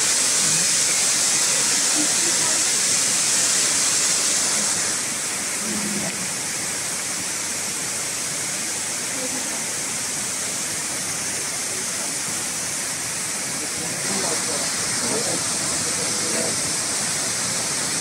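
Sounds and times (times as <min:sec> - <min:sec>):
waterfall cascading over rock: 0:00.0 - 0:18.0.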